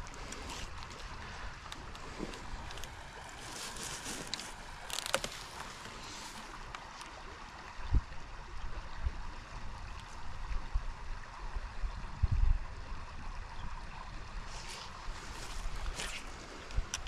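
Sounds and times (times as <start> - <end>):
creek water running: 0.0 - 17.0.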